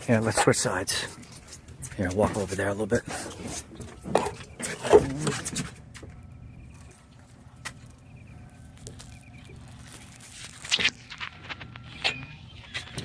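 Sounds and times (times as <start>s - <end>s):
boat engine idling: 0.0s - 10.9s.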